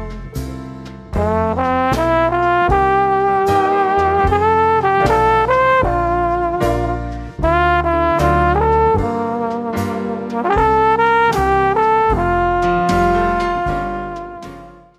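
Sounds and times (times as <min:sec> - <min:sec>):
steady beat: 0:00.0 - 0:14.8
brass horns playing chords: 0:01.2 - 0:14.9.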